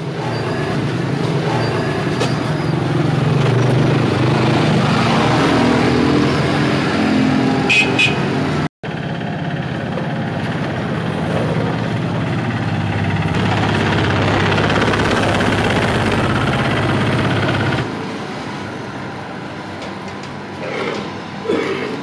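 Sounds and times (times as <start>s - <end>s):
mopeds passing: 0.0s - 18.0s
street traffic: 0.0s - 22.0s.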